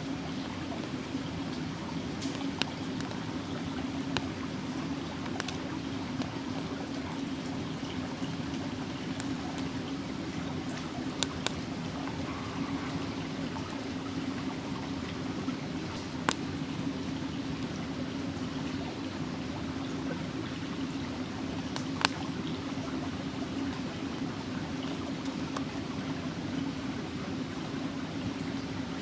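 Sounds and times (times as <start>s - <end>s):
running water: 0.0s - 29.0s
campfire crackles: 0.4s - 25.8s.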